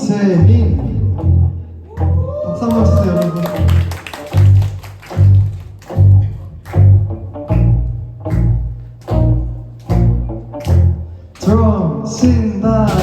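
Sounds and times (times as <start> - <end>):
electric bass guitar riff: 0.0 - 13.0.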